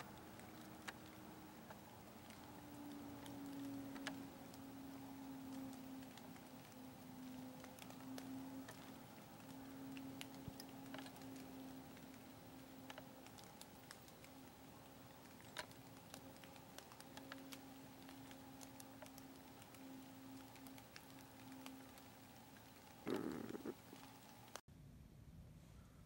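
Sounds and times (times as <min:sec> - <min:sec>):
light ticks and clicks: 0:00.0 - 0:24.6
faint steady hum: 0:00.0 - 0:26.0.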